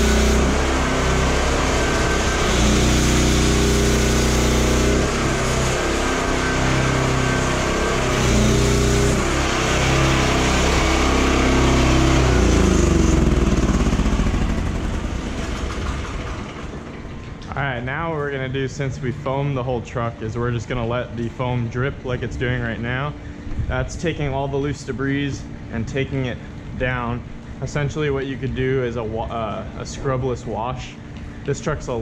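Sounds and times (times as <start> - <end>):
pressure washer drone: 0.0 - 32.0.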